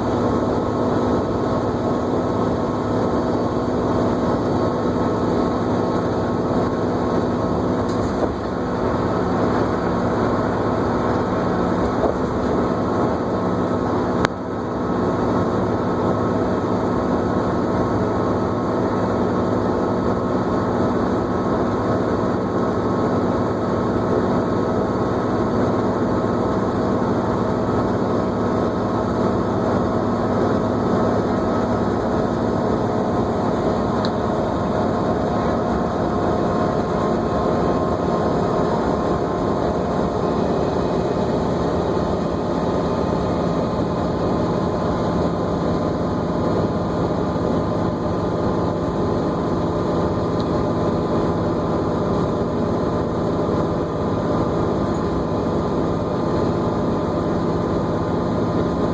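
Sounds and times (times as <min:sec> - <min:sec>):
bus engine and road noise: 0:00.0 - 0:58.9.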